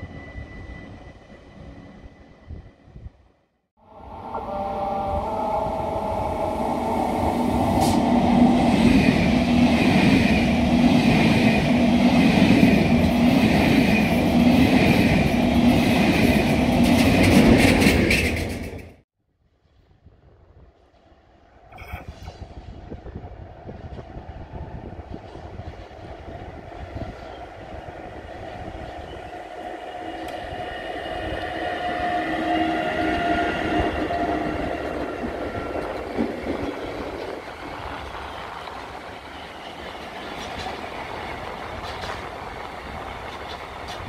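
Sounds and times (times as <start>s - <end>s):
electric locomotives whining: 0.0s - 3.2s, 3.8s - 18.9s, 22.0s - 44.0s.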